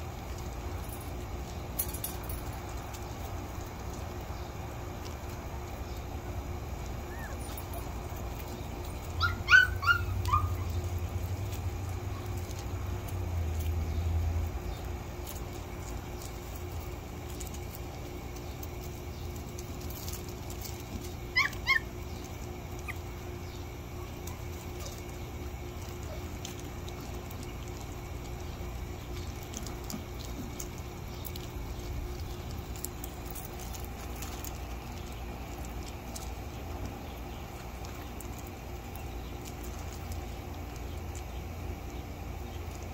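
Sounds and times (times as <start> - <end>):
puppies yipping: 6.7 - 41.4.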